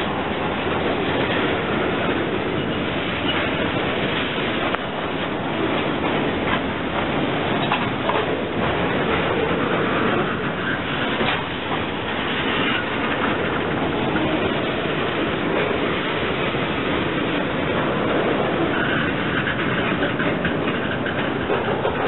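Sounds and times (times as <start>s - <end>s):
steel wheels rumbling on rail: 0.0s - 22.0s
train cars clanking: 0.0s - 22.0s.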